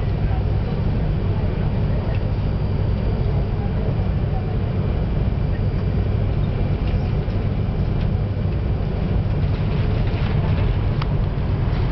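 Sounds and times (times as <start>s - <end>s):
train rumble from inside: 0.0s - 11.9s.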